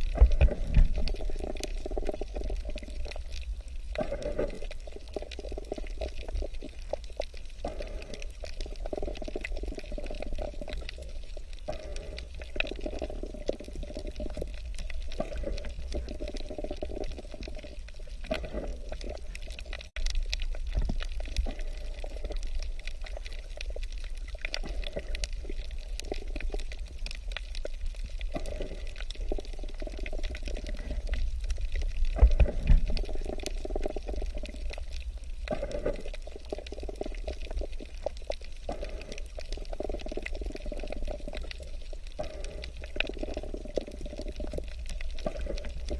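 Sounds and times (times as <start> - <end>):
water bubbling and gurgling: 0.0 - 45.9.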